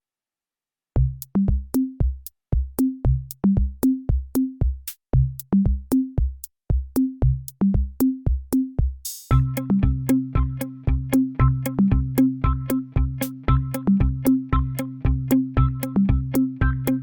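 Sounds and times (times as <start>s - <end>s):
drum machine beat: 1.0s - 17.0s.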